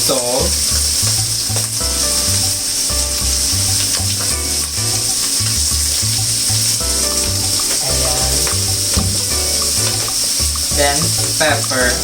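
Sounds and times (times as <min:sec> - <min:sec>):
background music with bass line: 0:00.0 - 0:12.0
food sizzling in a pan: 0:00.0 - 0:12.0.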